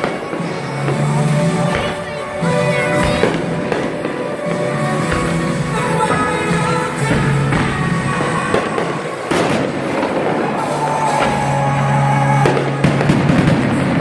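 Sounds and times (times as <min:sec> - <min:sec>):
fireworks bursting bangs: 0:00.0 - 0:14.0
music playing: 0:00.0 - 0:14.0.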